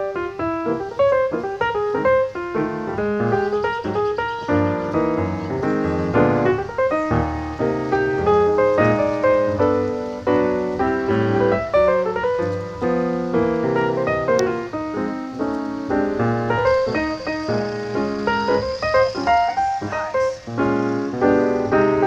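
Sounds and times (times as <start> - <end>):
piano playing: 0.0 - 22.0.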